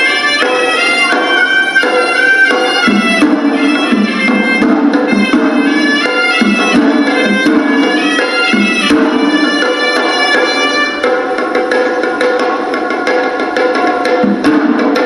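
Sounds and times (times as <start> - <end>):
rapid drum strokes: 0.0 - 15.0
shawm playing reedy melody: 0.0 - 15.0.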